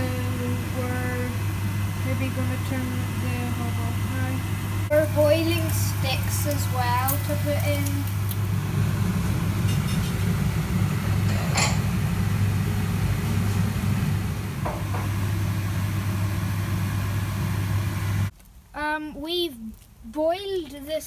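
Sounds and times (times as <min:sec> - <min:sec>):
extractor fan humming: 0:00.0 - 0:18.3.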